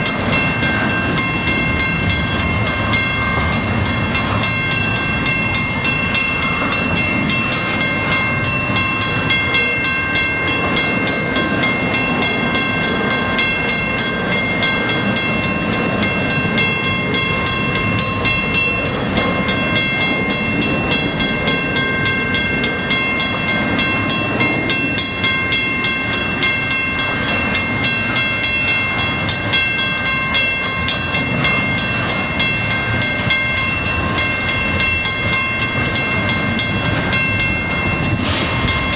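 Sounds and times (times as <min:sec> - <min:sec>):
crossing signal bell ringing: 0:00.0 - 0:38.9
freight train rumbling over rails: 0:00.0 - 0:38.9
train wheel clicks: 0:00.0 - 0:38.9.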